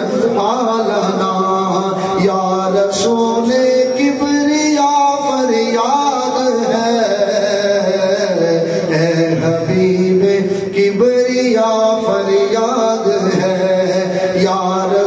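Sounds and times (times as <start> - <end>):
man singing a devotional hymn: 0.0 - 15.0.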